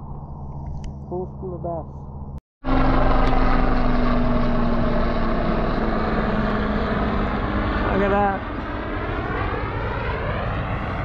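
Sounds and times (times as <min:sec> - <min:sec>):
propeller aircraft passing overhead: 0:00.0 - 0:11.0.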